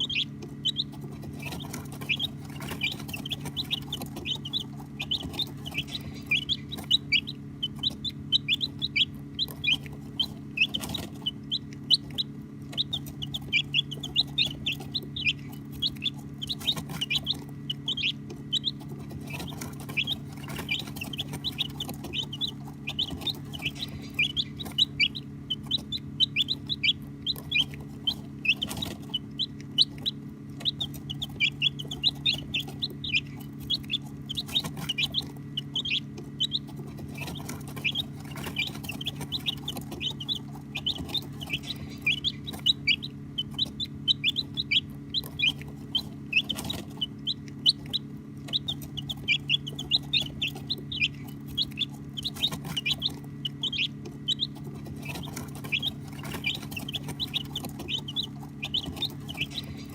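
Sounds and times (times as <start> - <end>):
baby chicks peeping: 0.0 - 59.9
steady low hum: 0.0 - 59.9.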